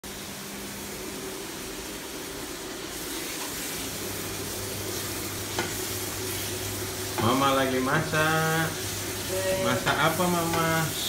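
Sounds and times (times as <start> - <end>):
food sizzling in a frying pan: 0.1 - 11.0.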